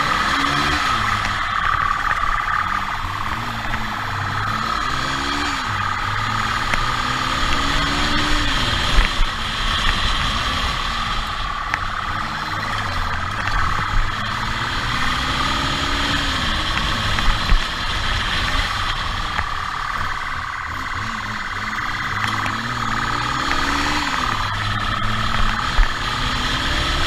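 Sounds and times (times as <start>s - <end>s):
motorcycle engine revving: 0.0s - 27.0s
road noise: 0.0s - 27.0s.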